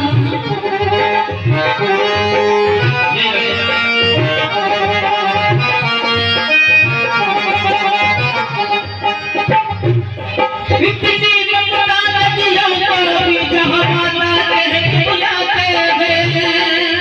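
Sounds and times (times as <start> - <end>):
electronic keyboard melody: 0.0 - 17.0.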